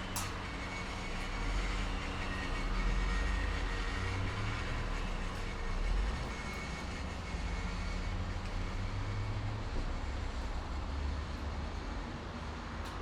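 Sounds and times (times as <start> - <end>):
highway traffic rumble: 0.0 - 13.0
tyre hiss from passing vehicles: 0.0 - 13.0.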